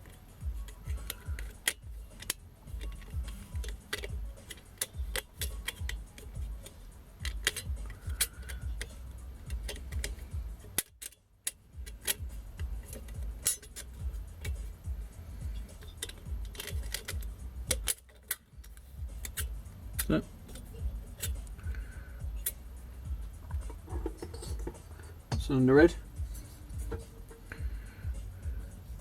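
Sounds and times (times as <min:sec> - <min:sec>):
metallic clinks of engine parts: 0:00.0 - 0:28.7.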